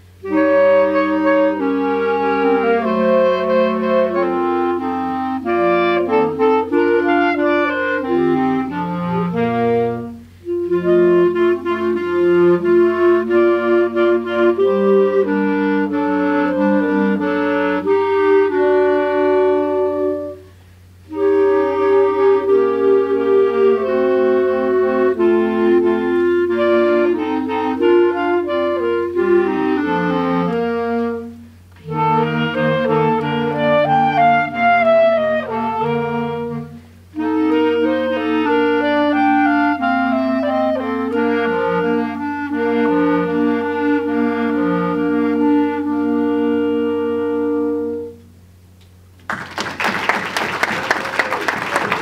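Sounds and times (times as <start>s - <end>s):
clarinet choir playing chords: 0.0s - 49.1s, 49.8s - 52.0s.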